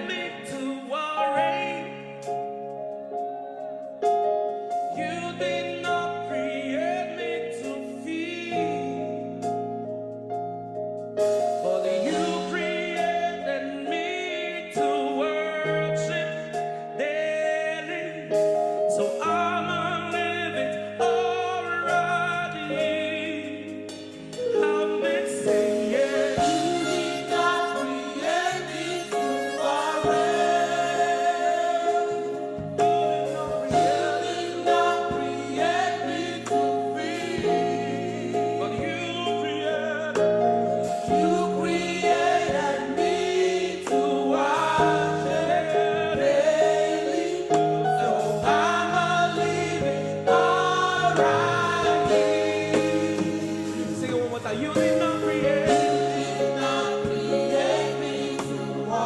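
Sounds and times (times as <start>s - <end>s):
choir singing gospel song: 0.0s - 10.0s, 11.2s - 59.0s
accompaniment chords and bass: 0.0s - 59.0s.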